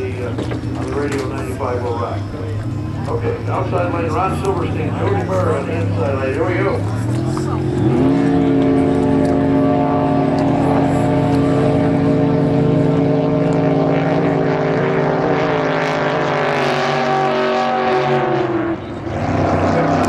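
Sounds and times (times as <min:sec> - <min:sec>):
drag boat engines roaring: 0:00.0 - 0:20.0.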